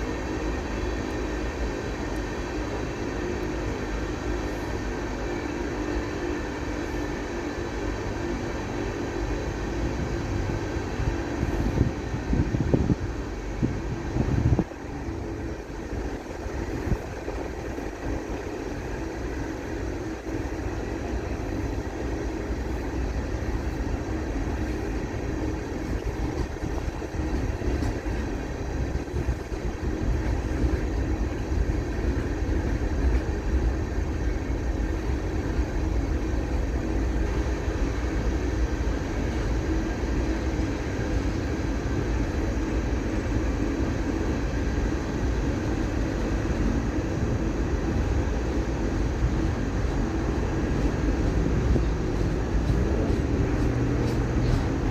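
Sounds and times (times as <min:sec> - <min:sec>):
freight train wheels rumbling: 0:00.0 - 0:54.9
train knocks: 0:00.0 - 0:54.9.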